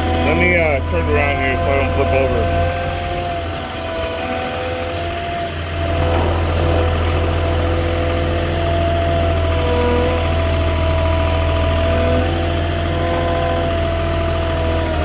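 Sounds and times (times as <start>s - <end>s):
forklift engine running: 0.0s - 15.0s
steady whine: 0.0s - 15.0s.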